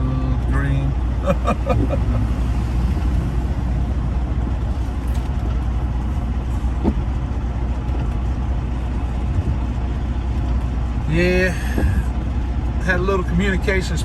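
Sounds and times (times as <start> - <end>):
diesel truck engine rumbling: 0.0 - 14.0.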